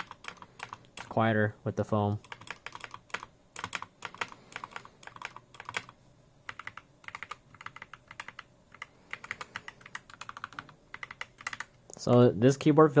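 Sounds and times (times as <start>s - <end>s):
typing on mechanical keyboard: 0.0s - 1.2s, 2.2s - 11.8s.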